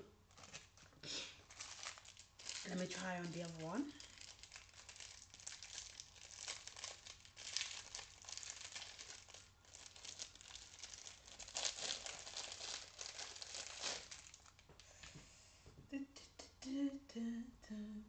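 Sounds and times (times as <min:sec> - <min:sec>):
plastic packaging crinkling: 0:00.2 - 0:14.8.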